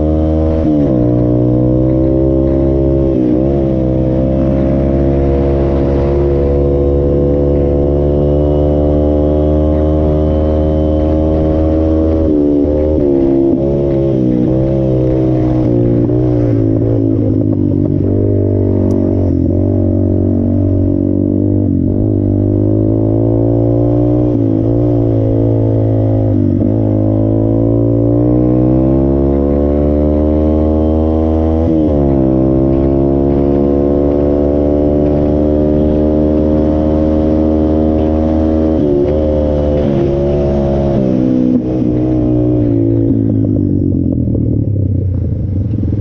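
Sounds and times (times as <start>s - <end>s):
off-road vehicle engine revving: 0.0s - 44.4s.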